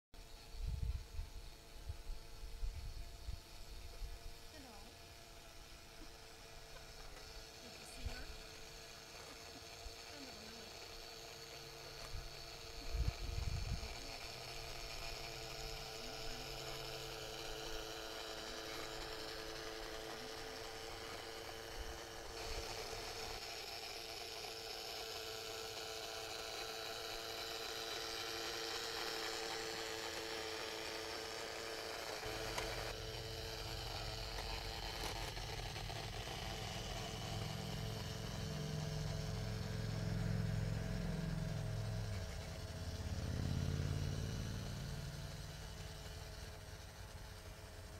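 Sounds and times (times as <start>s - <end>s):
model train humming: 0.2s - 47.9s.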